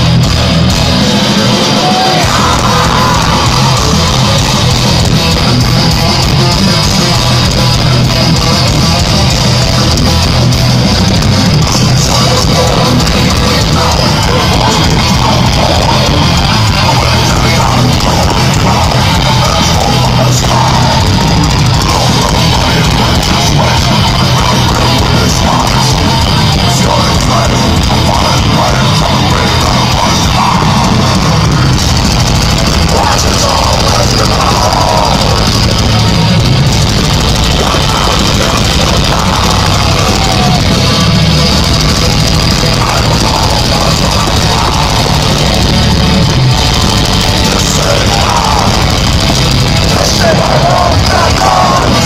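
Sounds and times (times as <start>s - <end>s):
heavy metal band playing live: 0.0s - 52.0s.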